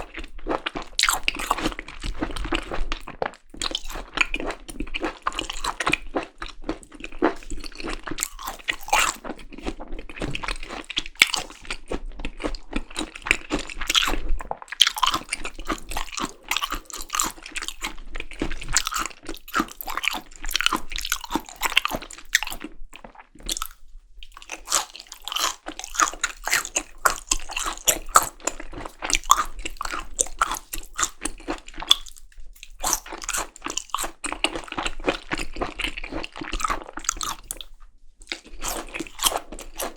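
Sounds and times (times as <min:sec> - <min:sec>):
person chewing wet food: 0:00.0 - 0:39.9.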